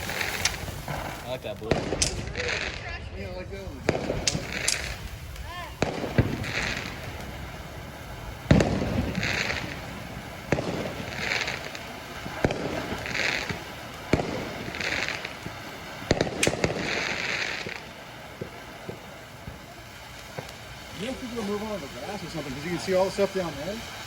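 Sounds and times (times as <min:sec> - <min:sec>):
firework sharp pops: 0:00.0 - 0:24.0
high-pitched firework bursts: 0:00.0 - 0:24.0.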